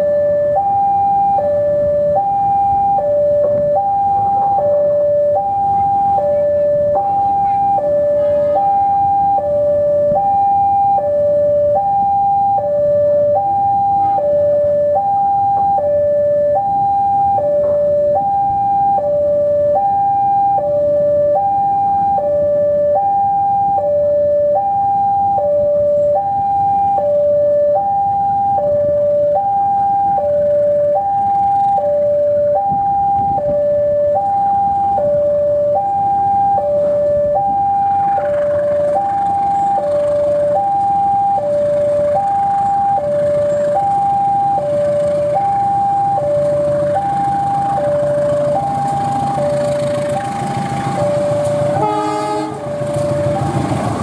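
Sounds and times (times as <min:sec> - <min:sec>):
two-tone level crossing alarm: 0:00.0 - 0:54.0.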